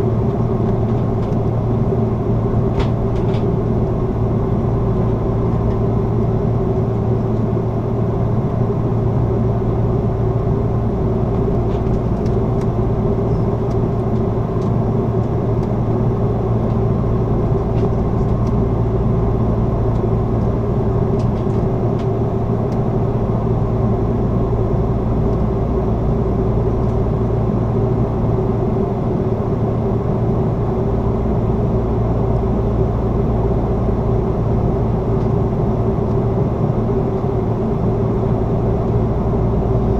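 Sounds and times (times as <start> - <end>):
constant low hum: 0.0 - 39.9
jet engines droning: 0.0 - 39.9.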